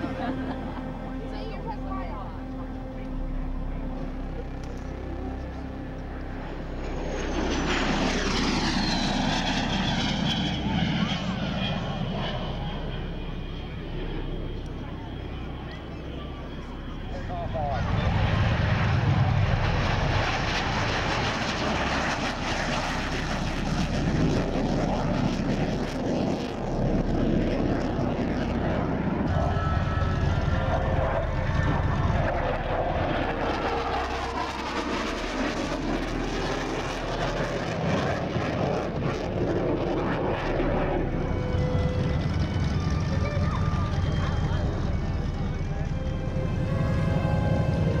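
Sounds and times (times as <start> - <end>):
jet engine roar: 0.0 - 48.0.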